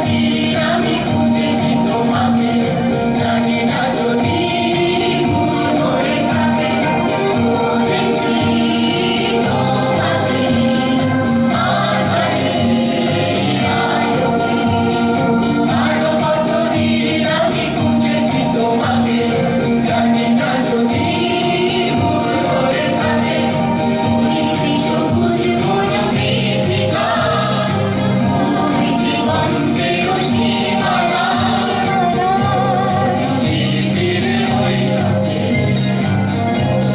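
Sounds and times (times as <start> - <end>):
bass: 0.0 - 36.9
song with singing and beat: 0.0 - 36.9.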